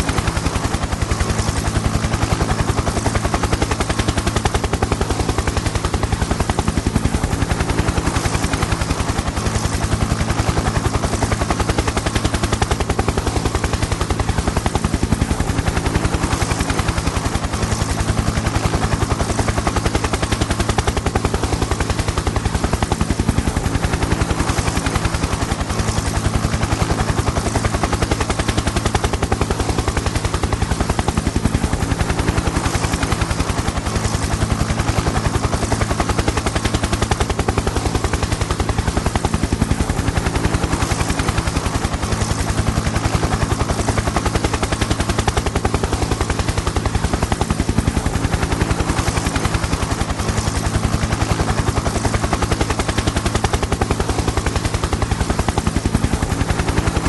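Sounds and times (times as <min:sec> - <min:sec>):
helicopter rotor chop: 0:00.0 - 0:57.0.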